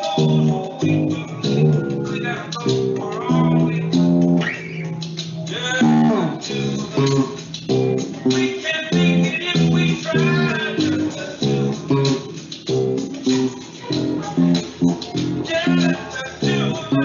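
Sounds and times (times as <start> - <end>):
electric bass solo: 0.0 - 4.9, 5.6 - 17.0.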